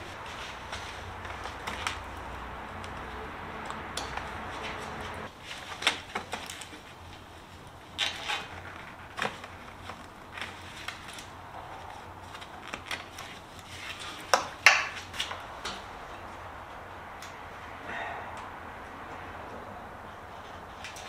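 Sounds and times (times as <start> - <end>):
rustling: 0.0 - 16.9.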